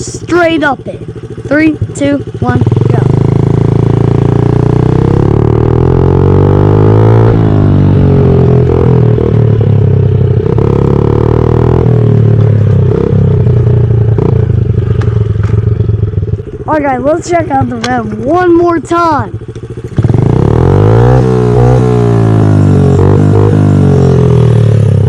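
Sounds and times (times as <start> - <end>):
small motorcycle engine revving: 0.0 - 25.0.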